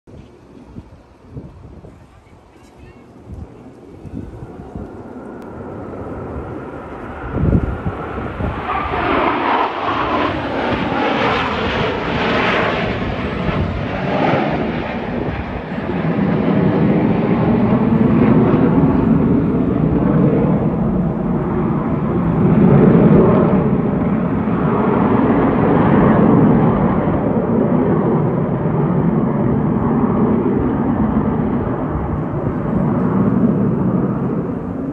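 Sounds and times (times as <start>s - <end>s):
jets roaring overhead: 0.3s - 34.9s.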